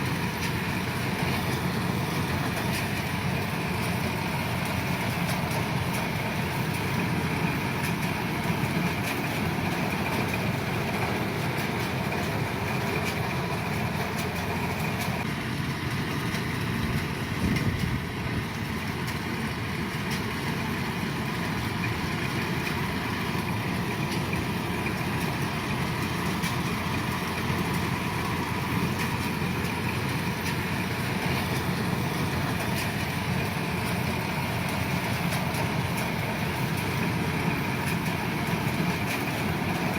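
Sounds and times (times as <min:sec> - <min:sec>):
combine harvester engine and threshing: 0:00.0 - 0:39.9.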